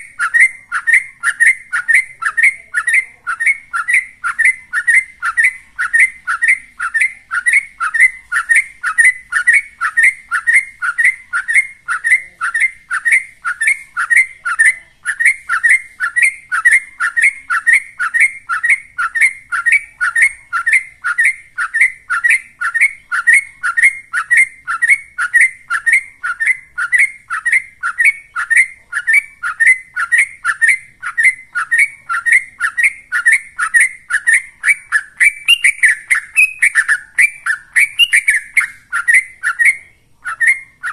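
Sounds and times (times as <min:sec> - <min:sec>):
bird singing rapid falling notes: 0:00.0 - 0:40.9.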